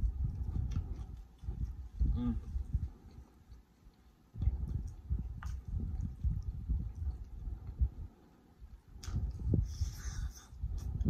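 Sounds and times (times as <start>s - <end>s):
chewing mouth sounds: 0.0s - 11.0s.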